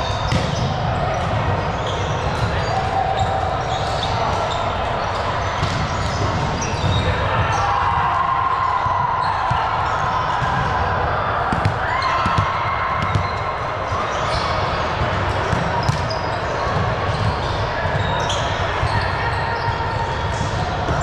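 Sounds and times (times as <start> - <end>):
murmur of players' voices: 0.0 - 21.0.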